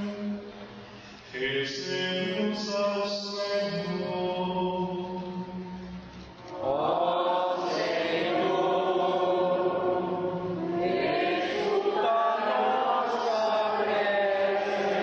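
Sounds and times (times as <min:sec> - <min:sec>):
voices singing liturgical chant: 0:01.4 - 0:05.7, 0:06.5 - 0:15.0.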